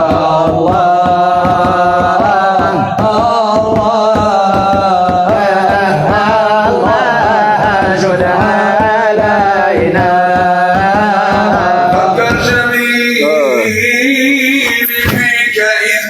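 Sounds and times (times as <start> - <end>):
fast hand drum beat: 0.0 - 15.4
person singing melodic lines: 0.0 - 16.0.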